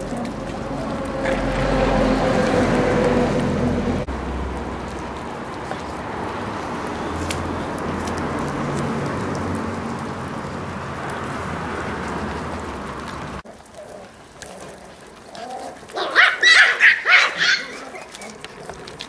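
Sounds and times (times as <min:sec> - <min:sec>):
puppies yapping and barking: 0:00.0 - 0:04.0, 0:07.2 - 0:19.0.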